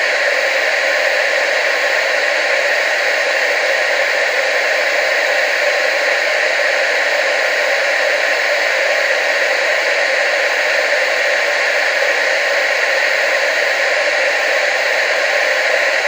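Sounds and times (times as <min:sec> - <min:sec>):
television static hiss: 0:00.0 - 0:16.0.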